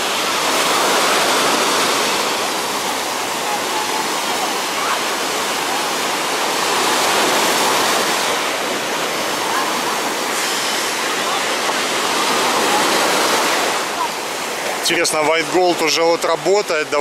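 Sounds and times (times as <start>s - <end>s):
small waves breaking on shore: 0.0s - 17.0s.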